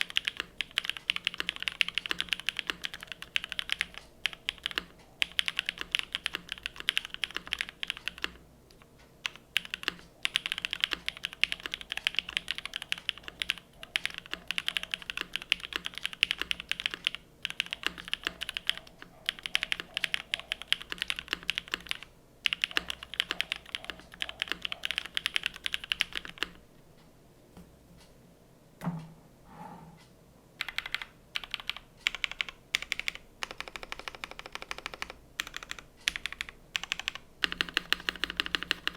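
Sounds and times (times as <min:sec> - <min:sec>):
typing on mechanical keyboard: 0:00.0 - 0:26.6, 0:30.6 - 0:38.9.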